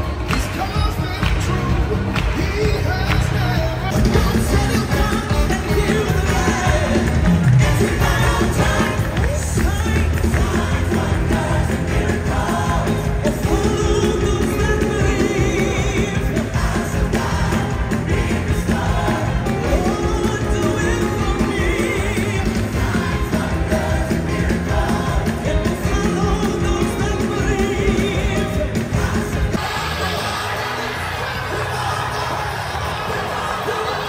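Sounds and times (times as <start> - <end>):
choir singing with band: 0.0 - 34.0.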